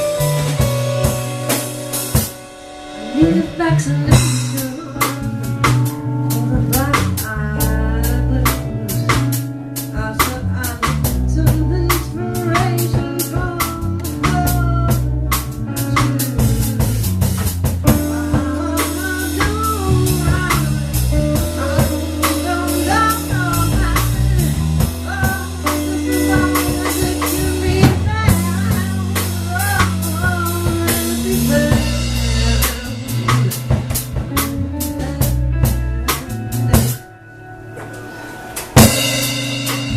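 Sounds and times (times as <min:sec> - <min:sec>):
drum rimshots: 0:00.0 - 0:07.7, 0:08.4 - 0:37.0, 0:37.7 - 0:39.9
live blues band playing: 0:00.0 - 0:39.9.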